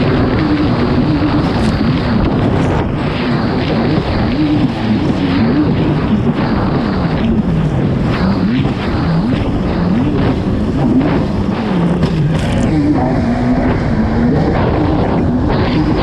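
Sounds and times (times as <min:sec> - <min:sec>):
watercraft engine revving: 0:00.0 - 0:16.0.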